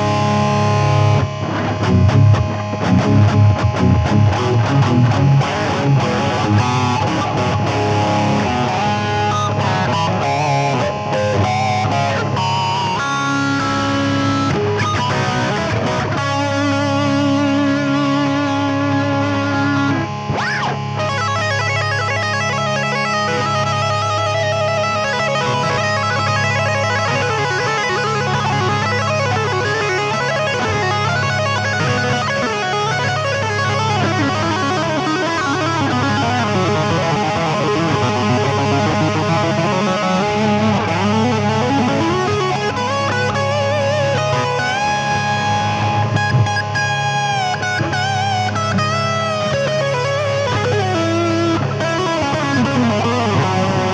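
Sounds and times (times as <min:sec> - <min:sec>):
electric guitar lead lines: 0:00.0 - 0:53.9
sustained guitar chord: 0:00.0 - 0:53.9.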